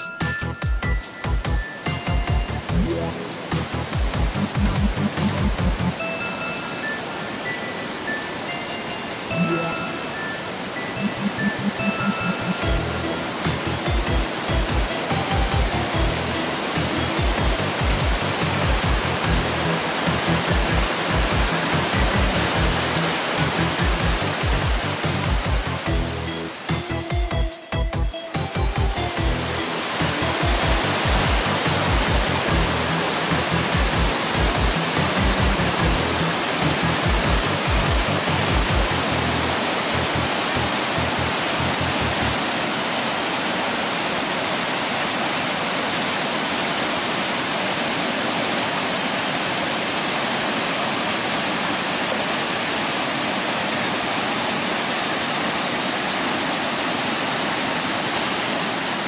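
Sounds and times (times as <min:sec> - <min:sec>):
water rushing over rocks: 0:00.8 - 0:59.0.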